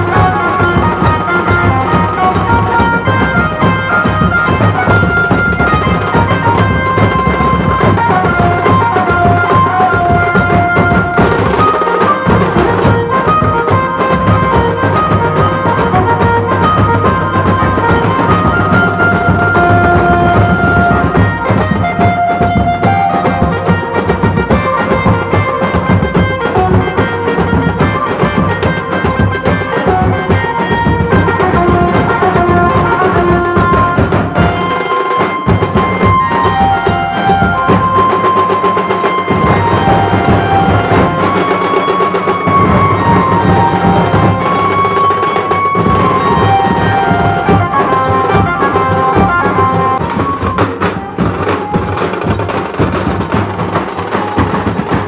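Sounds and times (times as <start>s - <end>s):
band melody line: 0.0s - 55.0s
processional band drums: 0.0s - 55.0s.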